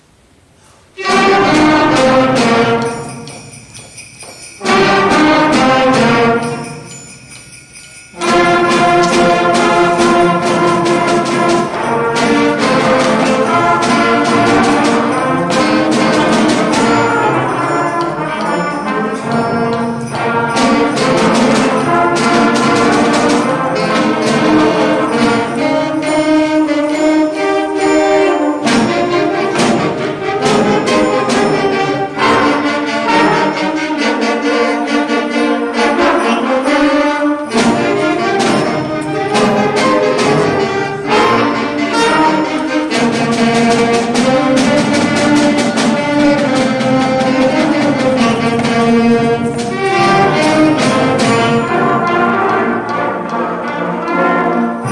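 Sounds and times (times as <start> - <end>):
live band with brass: 0.9 - 7.2, 7.9 - 54.9
sleigh bells shaking: 1.0 - 54.9.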